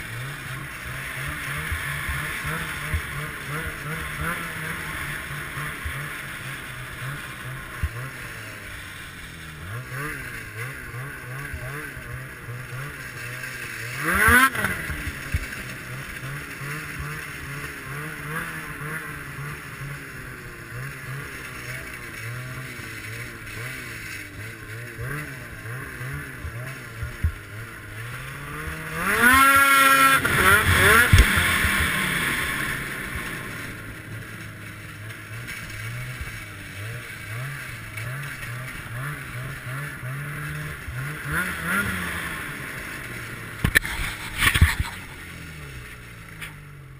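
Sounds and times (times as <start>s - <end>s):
snowmobile engine revving: 0.0s - 46.9s.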